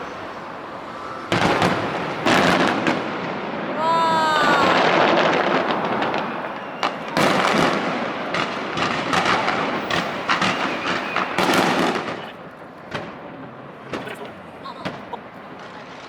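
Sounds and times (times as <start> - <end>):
fireworks bursting and crackling: 0.2 - 16.0.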